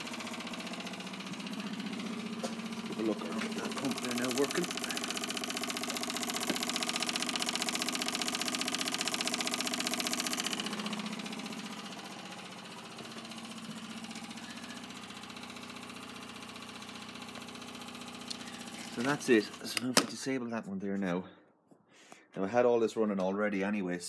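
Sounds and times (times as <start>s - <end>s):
electric fuel pump ticking buzz: 0.0s - 19.8s.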